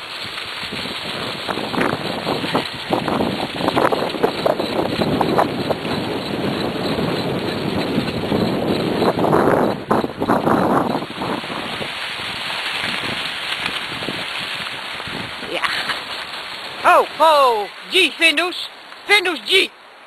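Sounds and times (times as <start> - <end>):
wind buffeting microphone: 0.0 - 18.1
cart crackling and knocking: 0.0 - 19.3
cart wheels rushing through leaves: 0.0 - 19.7.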